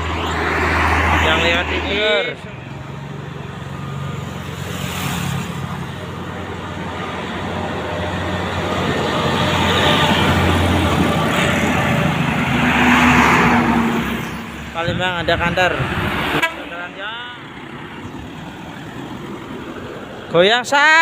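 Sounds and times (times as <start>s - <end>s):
heavy road traffic passing: 0.0s - 21.0s.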